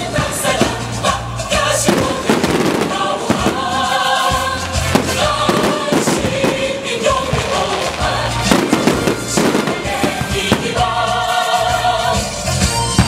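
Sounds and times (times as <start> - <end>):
fireworks bursting with bangs: 0.0 - 13.0
loud music with singing: 0.0 - 13.0.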